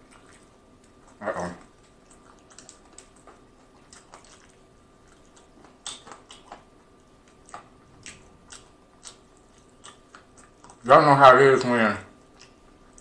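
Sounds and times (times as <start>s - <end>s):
chewing crispy fried chicken: 0.0s - 13.0s.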